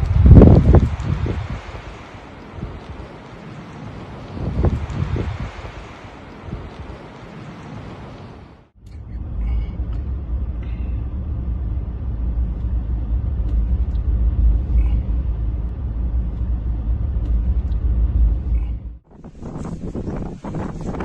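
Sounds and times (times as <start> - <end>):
engine rumbling: 0.0 - 21.0
wind noise on microphone: 0.0 - 21.0.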